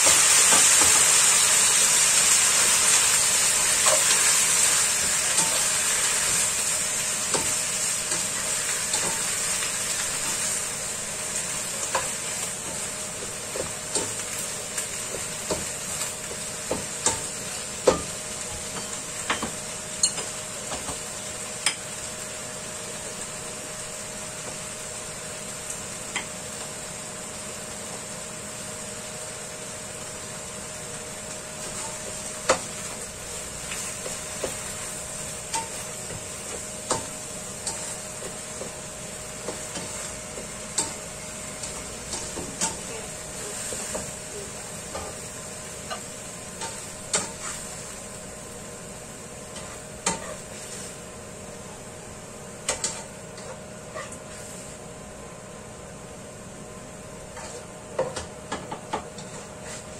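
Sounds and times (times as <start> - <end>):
greens sizzling in a frying pan: 0.0 - 59.9.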